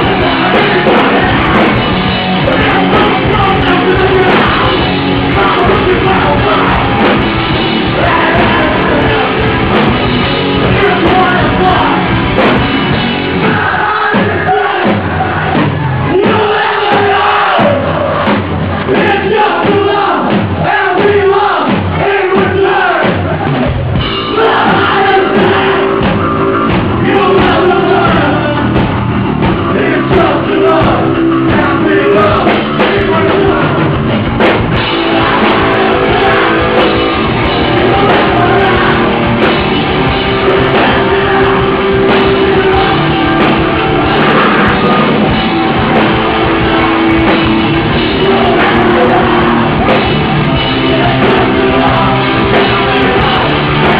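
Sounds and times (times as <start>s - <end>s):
punk band playing live: 0.0s - 53.9s.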